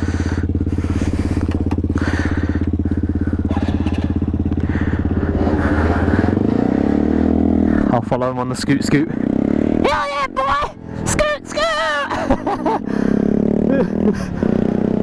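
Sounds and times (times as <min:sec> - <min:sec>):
small motorbike engine idling: 0:00.0 - 0:15.0.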